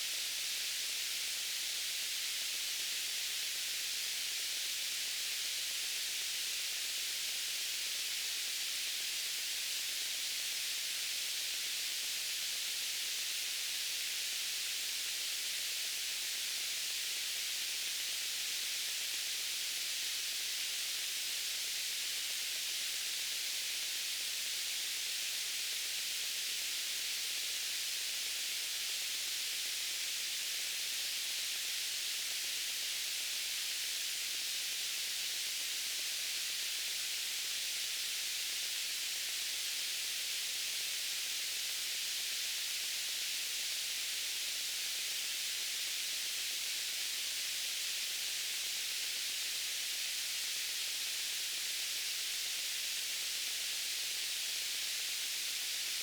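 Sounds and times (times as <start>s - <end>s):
high-pitched white noise hiss: 0.0s - 56.0s.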